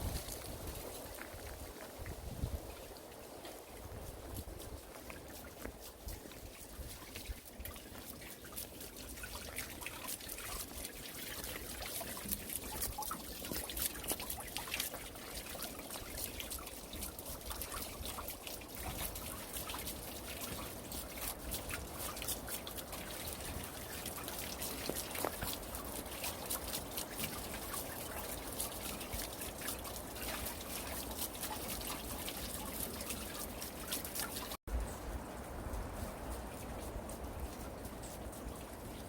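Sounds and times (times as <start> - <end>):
water trickling and dripping: 0.0 - 39.0.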